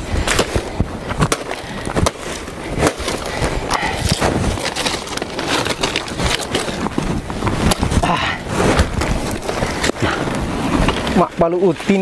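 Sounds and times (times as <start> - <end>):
dry leaves rustling and crackling: 1.4 - 12.0.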